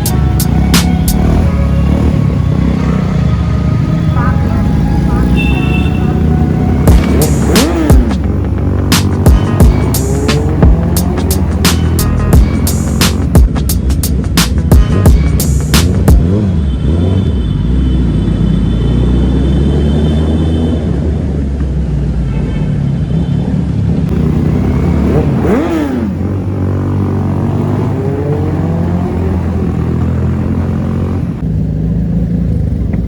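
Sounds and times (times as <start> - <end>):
motorcycle engine revving: 0.0 - 21.6, 24.1 - 33.0.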